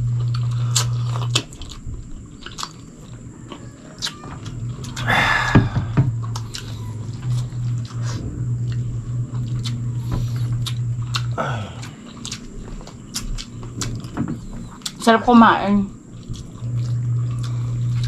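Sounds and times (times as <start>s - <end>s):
low steady hum: 0.0s - 18.0s
chewing and lip smacking: 0.1s - 5.1s, 6.1s - 15.1s, 15.9s - 18.0s.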